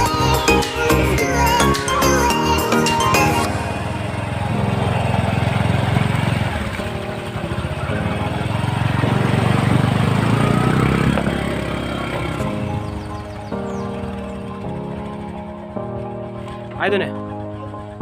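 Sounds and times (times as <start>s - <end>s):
faint music: 0.0s - 18.0s
small engine running: 2.4s - 18.0s.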